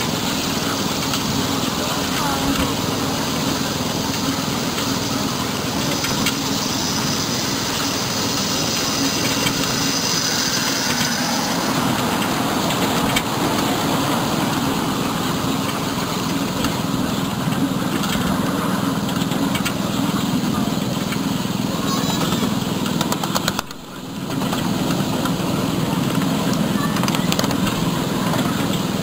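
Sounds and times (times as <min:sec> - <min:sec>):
miniature train rumbling on rails: 0:00.0 - 0:29.0.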